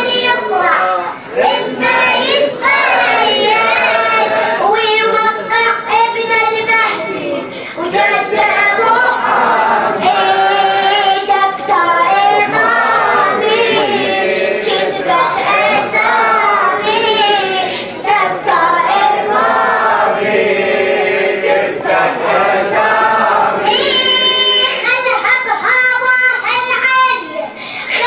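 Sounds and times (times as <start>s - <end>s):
group singing devotional chant: 0.0s - 5.7s, 6.6s - 25.5s.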